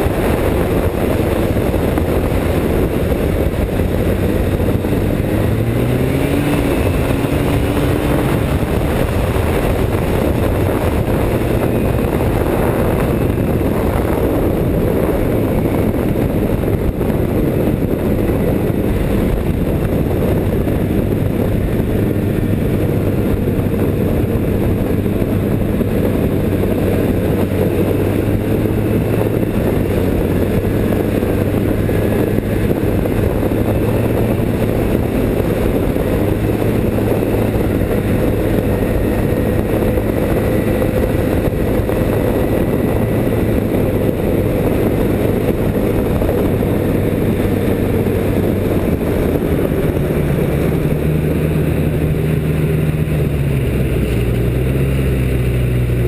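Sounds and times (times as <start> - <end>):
rush of noise: 0.0 - 56.0
snowmobile engine droning: 0.0 - 56.0.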